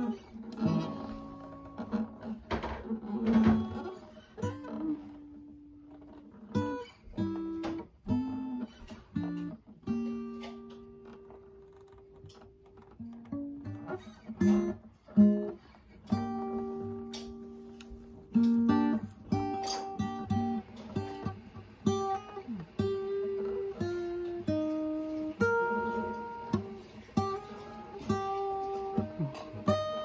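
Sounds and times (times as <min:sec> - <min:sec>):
acoustic guitar chords ringing: 0:00.0 - 0:05.8, 0:06.4 - 0:11.7, 0:13.0 - 0:30.0.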